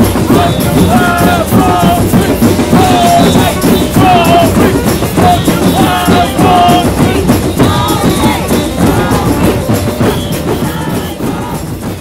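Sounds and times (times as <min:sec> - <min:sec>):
music with drums: 0:00.0 - 0:12.0.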